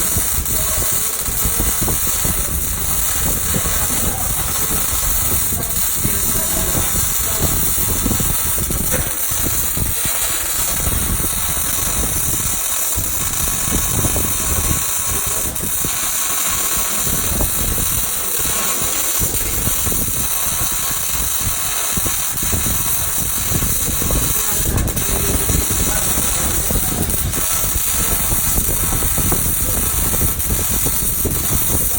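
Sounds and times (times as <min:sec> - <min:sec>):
welding arc crackling hiss: 0:00.0 - 0:31.9.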